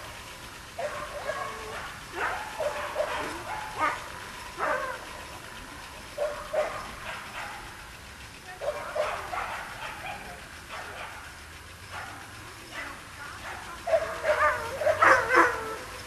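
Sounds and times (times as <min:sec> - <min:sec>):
dog barking and yelping: 0:00.7 - 0:05.1, 0:06.1 - 0:07.8, 0:08.6 - 0:16.0.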